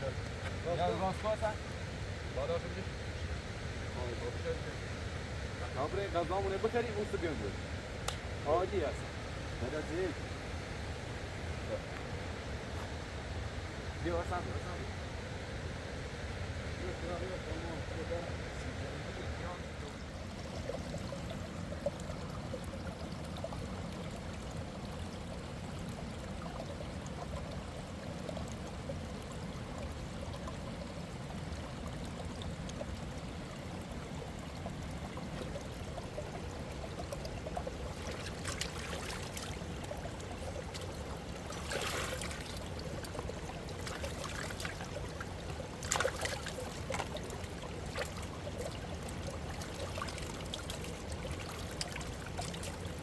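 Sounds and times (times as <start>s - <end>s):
river water running: 0.0s - 53.0s.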